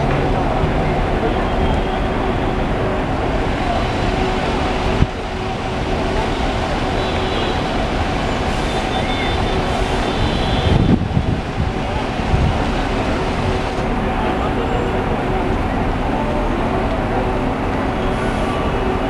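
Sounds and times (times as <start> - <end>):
bus engines running: 0.0 - 19.0
traffic noise: 0.0 - 19.0.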